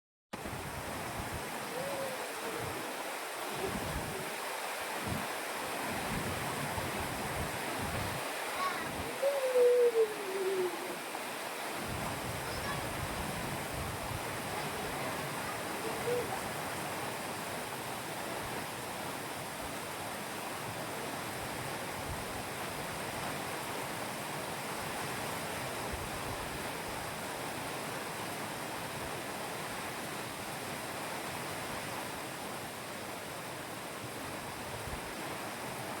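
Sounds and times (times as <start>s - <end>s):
rain falling on water: 0.4s - 9.2s, 10.0s - 36.0s.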